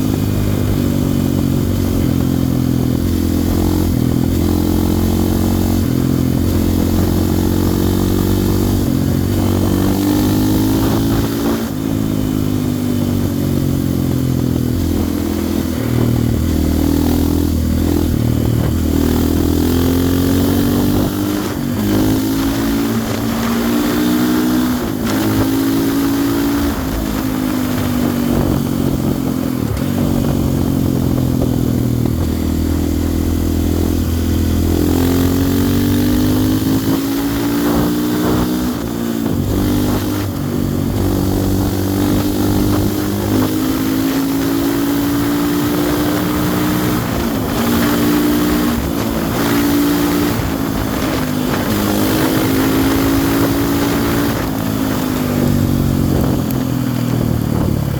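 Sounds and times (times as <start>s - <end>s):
motorcycle engine shifting gears: 0.0s - 57.9s.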